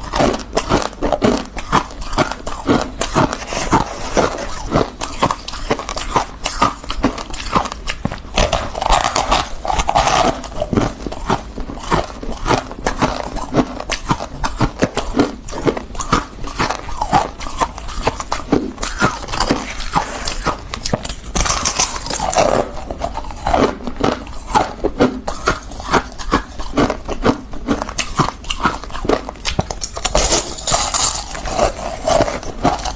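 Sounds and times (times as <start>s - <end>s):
frost crunching while chewed: 0.0s - 32.9s.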